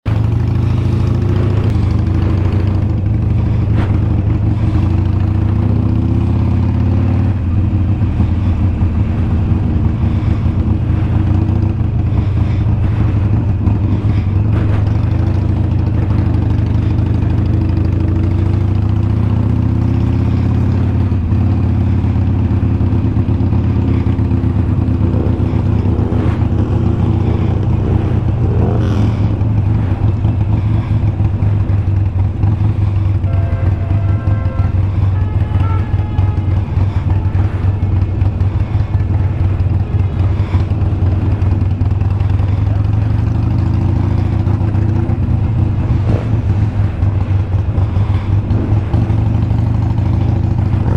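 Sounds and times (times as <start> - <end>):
motorcycle engine rumbling: 0.0 - 50.9.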